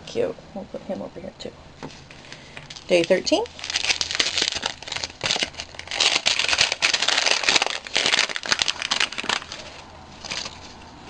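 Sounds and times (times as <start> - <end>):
wrapping paper crinkling and tearing: 2.1 - 11.0.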